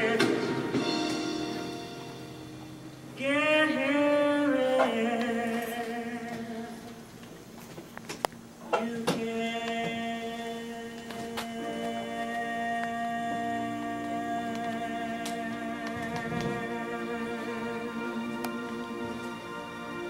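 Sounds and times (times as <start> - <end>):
person singing long notes: 0.0 - 1.9, 3.2 - 7.1, 8.6 - 20.0
sustained music background: 0.0 - 6.8, 9.4 - 20.0.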